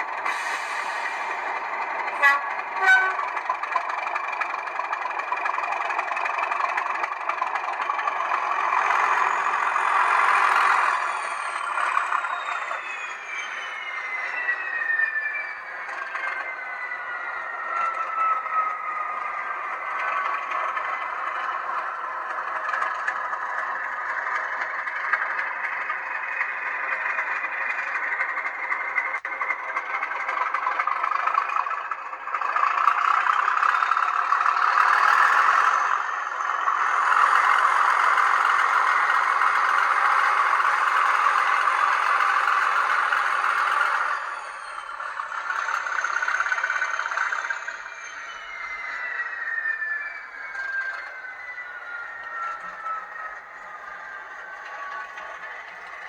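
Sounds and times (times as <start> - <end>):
turbocharger whistle: 0.0 - 7.4, 8.3 - 56.0
diesel engine sound from speaker: 0.0 - 56.0.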